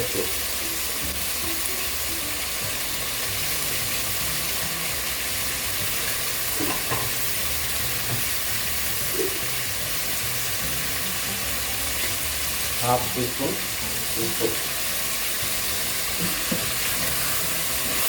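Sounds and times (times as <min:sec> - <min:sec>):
chicken frying in hot oil: 0:00.0 - 0:18.0.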